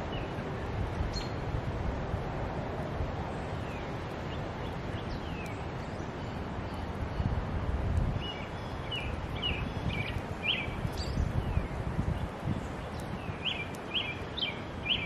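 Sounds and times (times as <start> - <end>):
small birds chirping: 0.0 - 1.5, 3.2 - 15.0.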